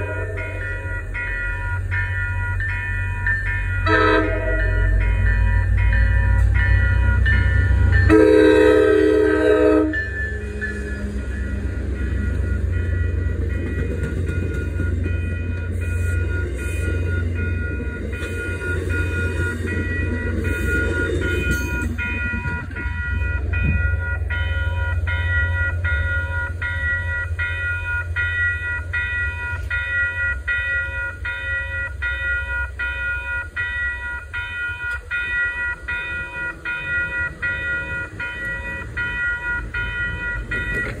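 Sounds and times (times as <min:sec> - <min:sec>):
railroad crossing bell ringing: 0:00.0 - 0:41.0
train rolling over rails: 0:00.0 - 0:41.0.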